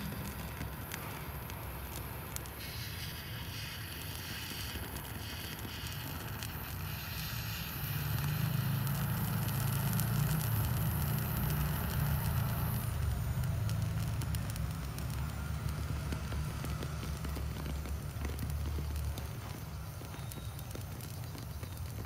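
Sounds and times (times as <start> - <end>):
foliage crackling: 0.0 - 22.0
jet torch roaring: 0.0 - 22.0.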